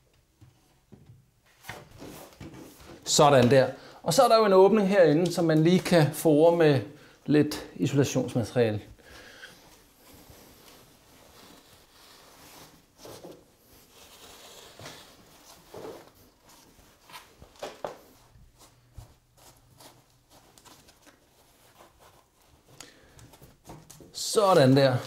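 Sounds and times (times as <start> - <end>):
insulation rustling and scraping: 0.5 - 6.5, 9.6 - 25.0.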